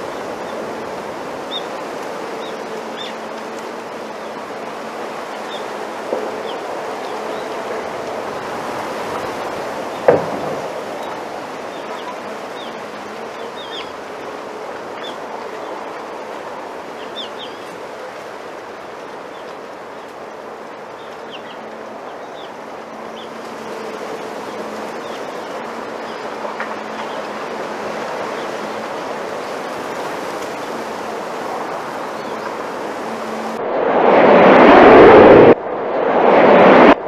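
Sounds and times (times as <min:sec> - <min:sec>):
wind rustling bamboo leaves: 0:00.0 - 0:37.0.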